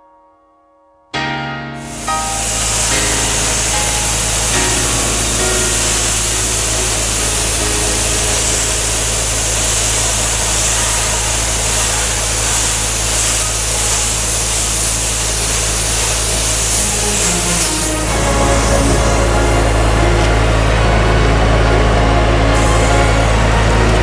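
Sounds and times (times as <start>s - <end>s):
high-pressure spray hissing: 1.8s - 21.4s
low engine drone: 1.9s - 24.0s.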